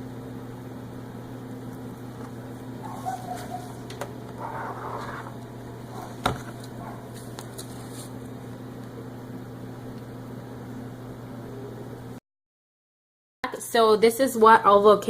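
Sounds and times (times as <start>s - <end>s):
electrical hum: 0.0s - 12.2s.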